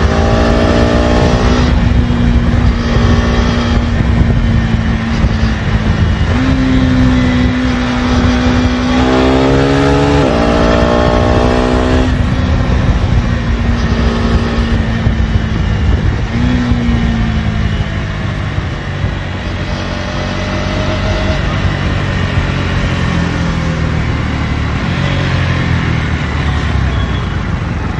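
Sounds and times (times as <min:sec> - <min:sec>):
motorcycle engine while riding: 0:00.0 - 0:27.9
road noise rushing: 0:00.0 - 0:27.9.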